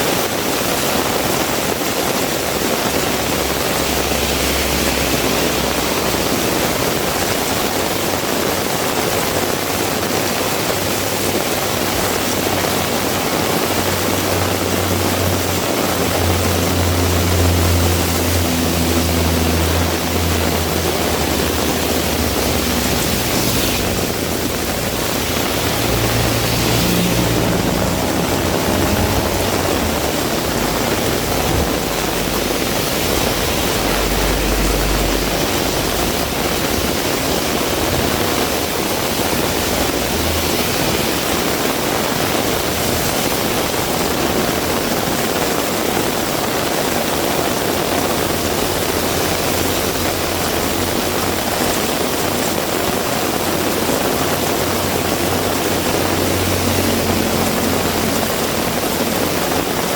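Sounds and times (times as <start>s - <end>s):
heavy rain pouring: 0.0s - 59.9s
low engine hum: 0.0s - 59.9s.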